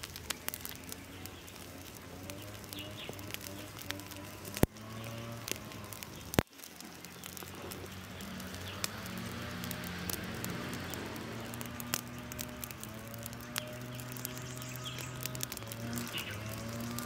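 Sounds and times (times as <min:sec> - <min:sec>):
fire crackling and popping: 0:00.0 - 0:17.0
steaks sizzling on a grill: 0:00.0 - 0:17.0.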